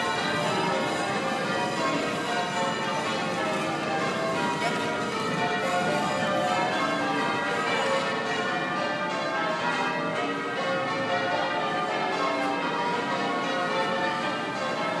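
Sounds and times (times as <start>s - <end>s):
church bells ringing changes: 0.0s - 15.0s.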